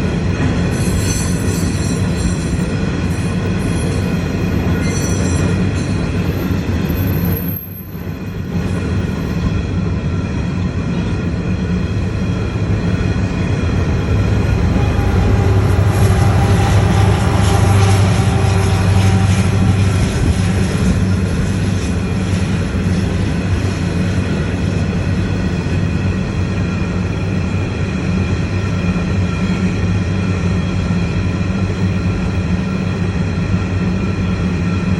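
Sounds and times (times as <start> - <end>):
train cars rumbling on rails: 0.0 - 34.9.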